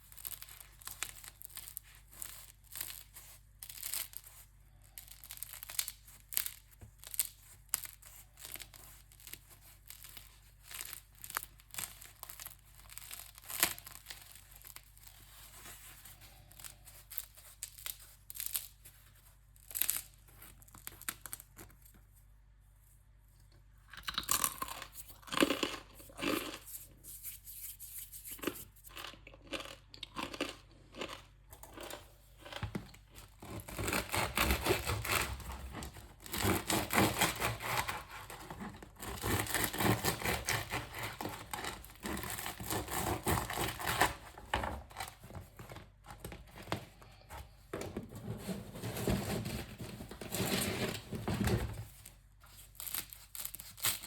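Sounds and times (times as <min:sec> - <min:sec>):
bread crust crackling: 0:00.0 - 0:22.2, 0:23.9 - 0:46.1, 0:51.9 - 0:54.0.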